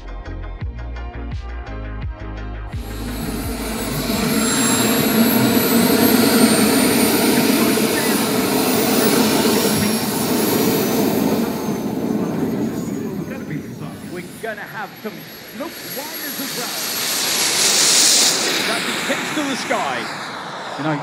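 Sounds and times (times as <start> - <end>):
jet turbine roar and whine: 2.8 - 21.0.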